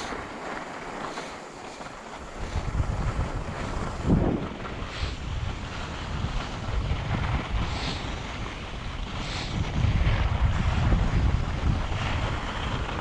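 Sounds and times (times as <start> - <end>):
skis hissing on snow: 0.0 - 13.0
wind buffeting microphone: 0.0 - 13.0.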